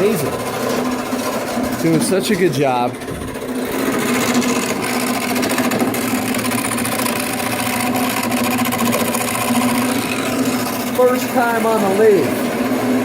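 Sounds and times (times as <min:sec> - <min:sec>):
spinning workpiece chatter: 0:00.0 - 0:13.0
wood lathe motor hum: 0:00.0 - 0:13.0.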